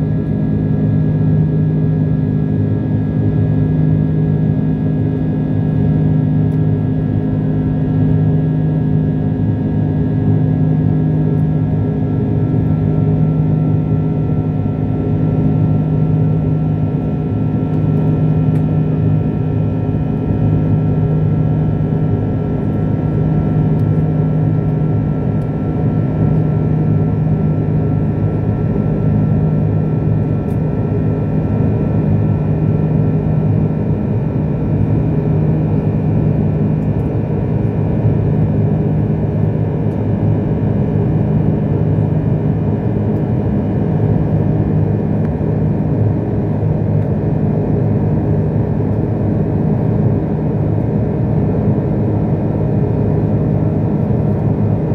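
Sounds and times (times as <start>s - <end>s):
jet airliner cabin drone: 0.0s - 54.9s.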